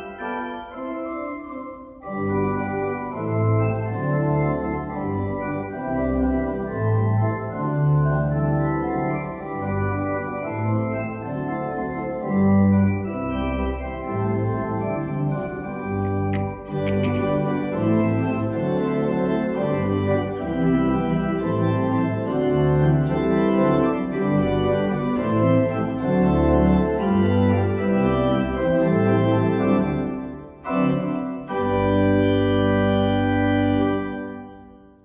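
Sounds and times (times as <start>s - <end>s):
church pipe organ chords: 0.0s - 35.0s.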